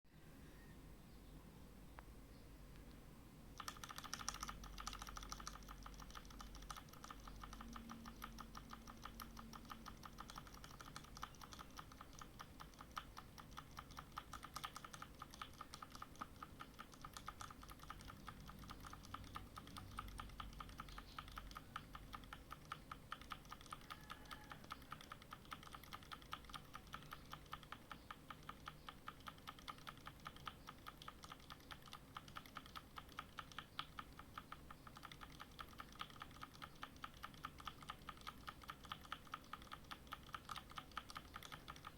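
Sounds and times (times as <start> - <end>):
keyboard keys clicking: 3.6 - 41.9.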